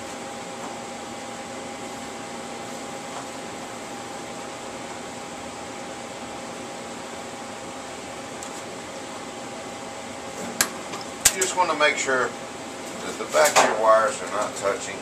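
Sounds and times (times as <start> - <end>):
ventilation fan whirring: 0.0 - 15.0.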